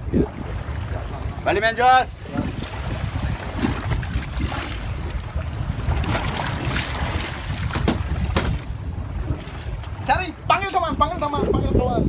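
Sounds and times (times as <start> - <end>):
water washing along hull: 0.0 - 12.0
wind rumbling on microphone: 0.0 - 12.0.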